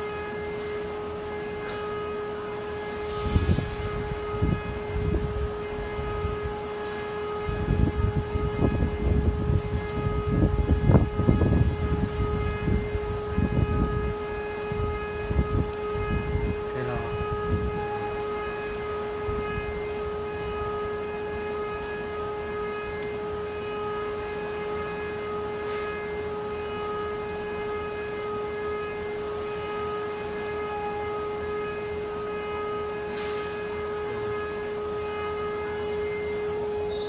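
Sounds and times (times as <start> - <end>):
spindle motor whine: 0.0 - 37.0.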